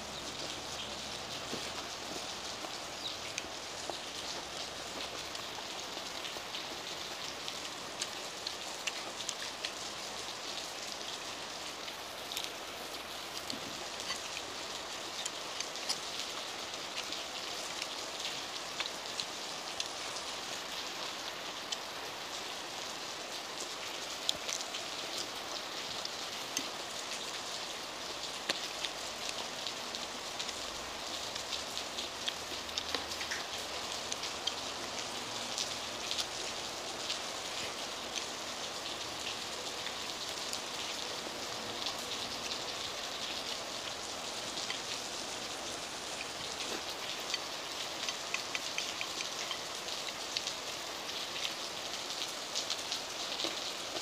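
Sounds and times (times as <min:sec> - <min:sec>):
heavy rain hiss: 0:00.0 - 0:54.0
raindrops ticking on surfaces: 0:00.0 - 0:54.0.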